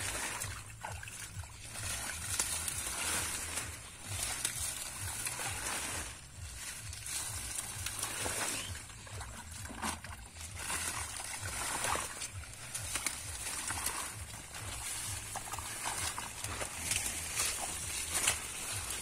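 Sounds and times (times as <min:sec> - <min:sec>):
muddy water sloshing: 0:00.0 - 0:19.0
plant leaves rustling: 0:00.0 - 0:19.0
small splashes: 0:00.0 - 0:19.0.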